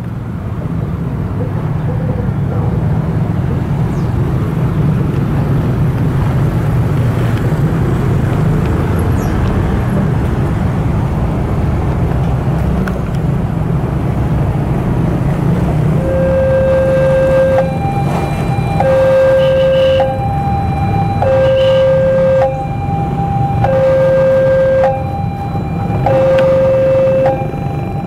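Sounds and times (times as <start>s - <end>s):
motorcycles passing: 0.0s - 28.0s.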